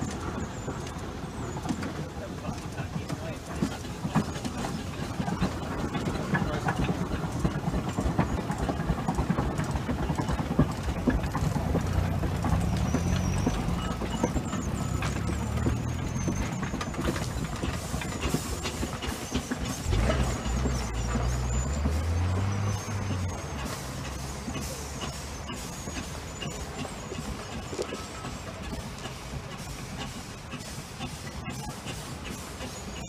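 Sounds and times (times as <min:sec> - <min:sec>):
steam traction engine clattering: 0:00.0 - 0:33.0.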